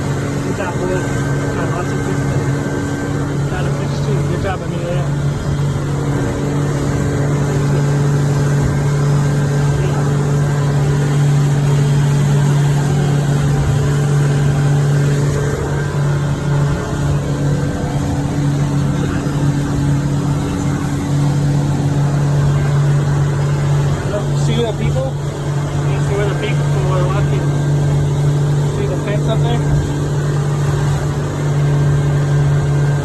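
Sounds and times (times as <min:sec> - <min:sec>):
motorboat engine drone: 0:00.0 - 0:33.0
water rushing: 0:00.0 - 0:33.0.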